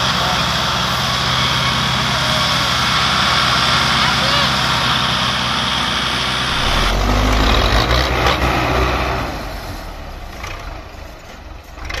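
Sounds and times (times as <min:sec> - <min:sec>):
tractor diesel engines rumbling: 0:00.0 - 0:12.0.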